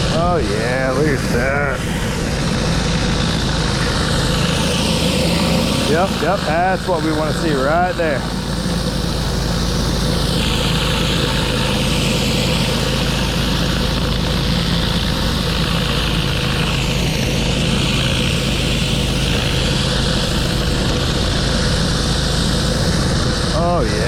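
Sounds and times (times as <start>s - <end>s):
pressure washer spray hissing: 0.0s - 23.9s
pressure washer engine running: 0.0s - 24.0s.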